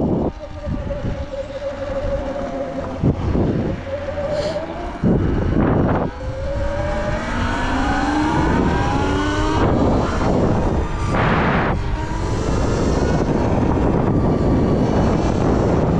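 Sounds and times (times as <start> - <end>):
electric motorbike motor whining: 0.0 - 15.9
loud rushing noise: 0.0 - 15.9.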